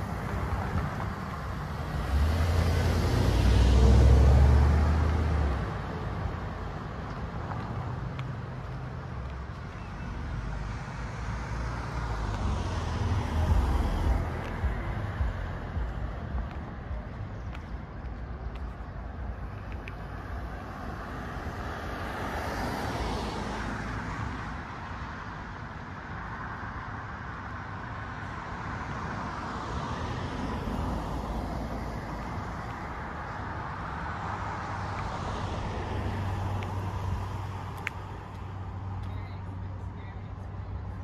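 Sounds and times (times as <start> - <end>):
cars passing: 0.0 - 41.0
traffic background: 0.0 - 41.0.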